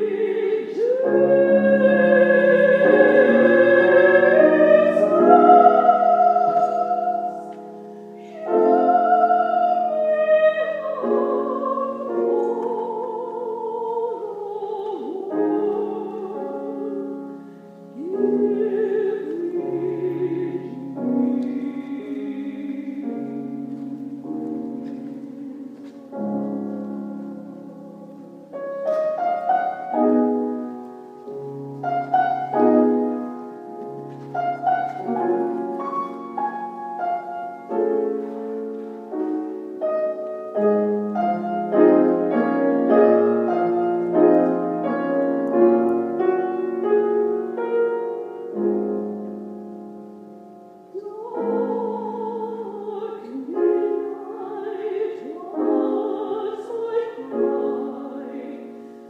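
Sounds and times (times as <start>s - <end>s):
soprano voice singing: 0.0s - 50.2s, 50.8s - 59.0s
slow chordal piano: 0.0s - 59.0s.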